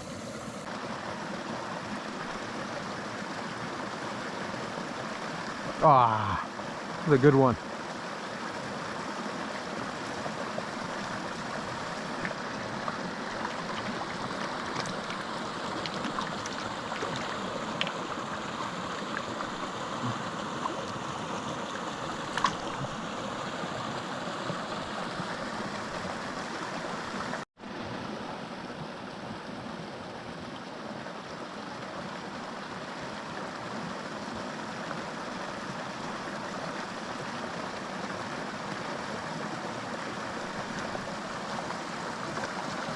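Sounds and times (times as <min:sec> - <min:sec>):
creek water rushing: 0:00.0 - 0:42.9.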